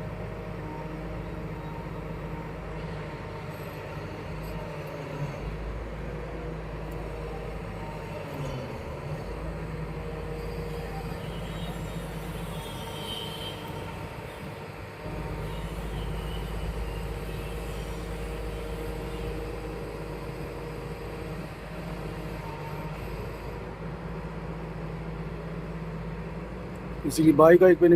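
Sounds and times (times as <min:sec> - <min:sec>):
excavator diesel engine rumbling: 0:00.0 - 0:27.9.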